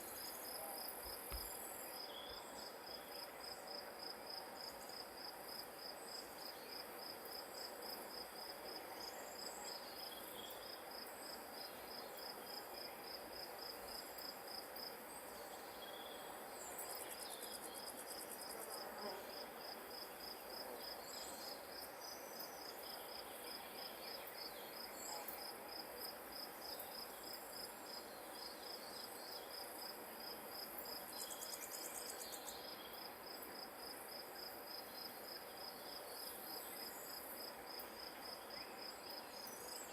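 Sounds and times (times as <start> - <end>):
faint outdoor hiss: 0.0 - 39.9
insects chirping: 0.0 - 39.9.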